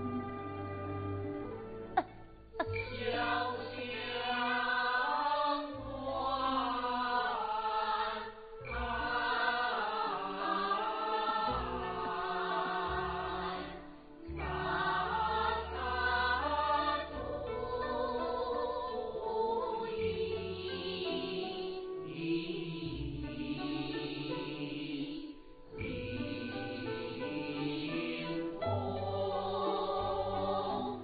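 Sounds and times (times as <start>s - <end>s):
chorus singing: 0.0s - 31.0s
orchestral accompaniment: 0.0s - 31.0s.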